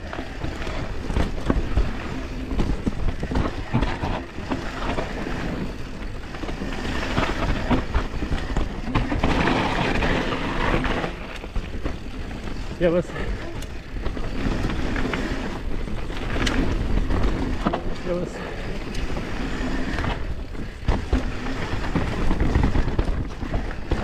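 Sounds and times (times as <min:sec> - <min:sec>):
bike knocks and rattles: 0:00.0 - 0:24.0
bike tyres rolling over dirt: 0:00.0 - 0:24.0.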